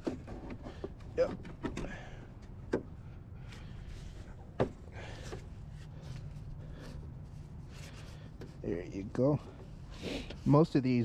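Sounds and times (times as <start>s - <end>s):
rustling and scraping: 0.0s - 1.9s, 2.8s - 11.0s.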